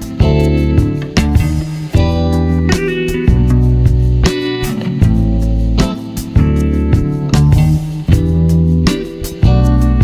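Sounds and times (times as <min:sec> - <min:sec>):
sustained chords with deep bass: 0:00.0 - 0:10.0.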